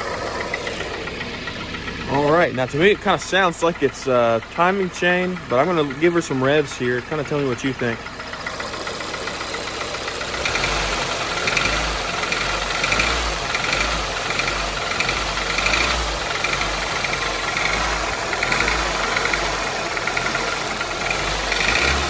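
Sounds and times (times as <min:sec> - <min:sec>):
car engine revving: 0:00.0 - 0:22.0
pulsing engine knock: 0:00.0 - 0:22.0.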